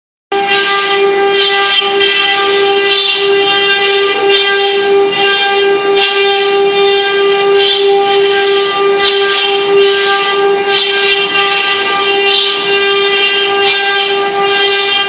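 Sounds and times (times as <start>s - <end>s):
router spindles whining: 0.4s - 15.0s.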